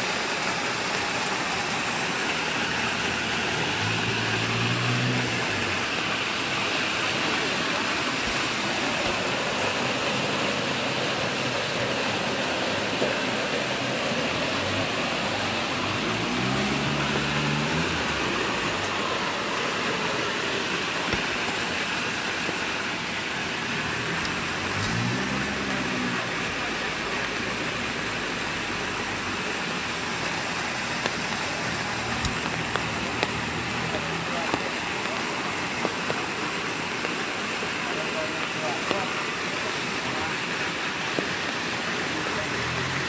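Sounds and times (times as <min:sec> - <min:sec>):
water rushing: 0:00.0 - 0:43.0
vehicle engine hum: 0:00.2 - 0:43.0.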